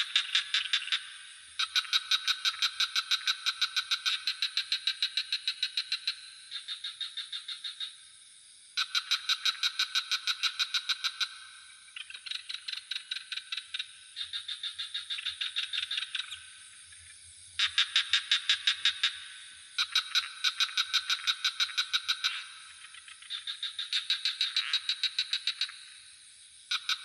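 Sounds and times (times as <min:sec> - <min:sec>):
frogs calling in pulsed trills: 0:00.0 - 0:27.0.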